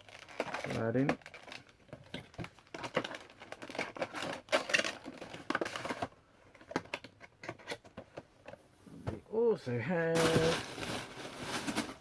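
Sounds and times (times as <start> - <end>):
packaging clicks and crinkles: 0.0 - 7.8, 10.2 - 12.0.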